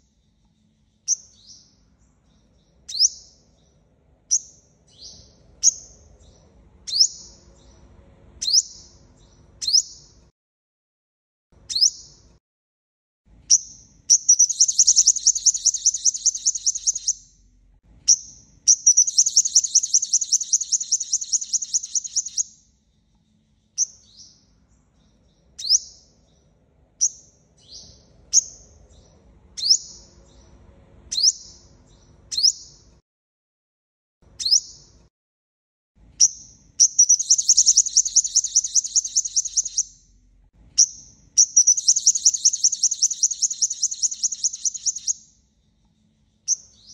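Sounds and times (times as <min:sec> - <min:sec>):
bird chirping and trilling: 0:00.0 - 0:07.8, 0:08.4 - 0:10.2, 0:11.6 - 0:12.3, 0:13.5 - 0:17.4, 0:18.1 - 0:26.4, 0:27.0 - 0:30.5, 0:31.1 - 0:32.9, 0:34.3 - 0:35.0, 0:36.2 - 0:40.2, 0:40.8 - 0:45.4, 0:46.4 - 0:46.9.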